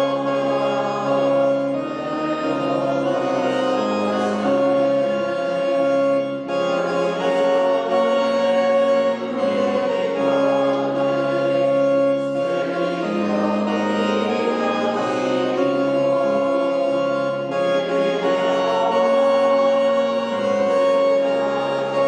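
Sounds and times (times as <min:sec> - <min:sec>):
congregation singing a hymn: 0:00.0 - 0:22.0
organ chords: 0:00.0 - 0:22.0.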